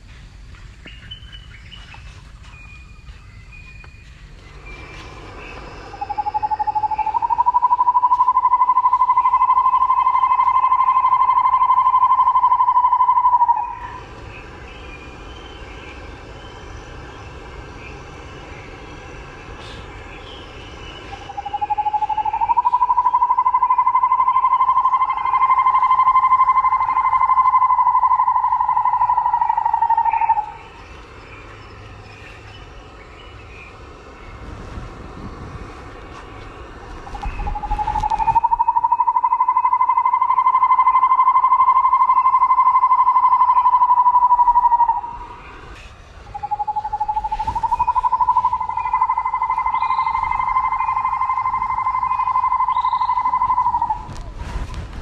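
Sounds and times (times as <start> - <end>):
outdoor background: 0.0 - 55.0.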